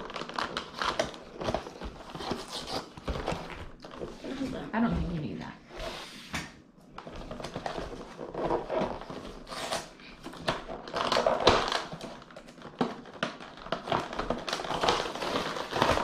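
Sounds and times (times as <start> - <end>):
packaging crinkling and crackling: 0.0 - 4.4, 6.8 - 16.0.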